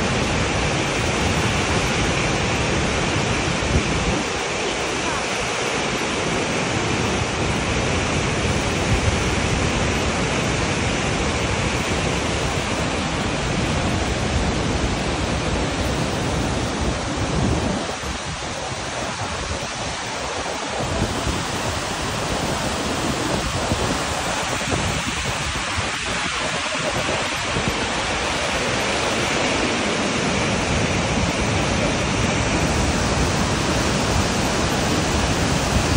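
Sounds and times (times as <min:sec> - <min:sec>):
waterfall rushing: 0:00.0 - 0:35.9
wind rumble on microphone: 0:00.0 - 0:35.9.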